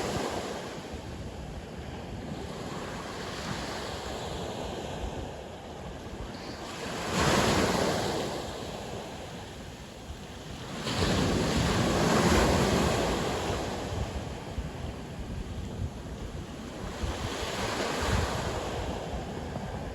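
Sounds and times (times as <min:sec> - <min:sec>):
sea waves breaking on shore: 0:00.0 - 0:19.9
wind noise on microphone: 0:00.0 - 0:19.9.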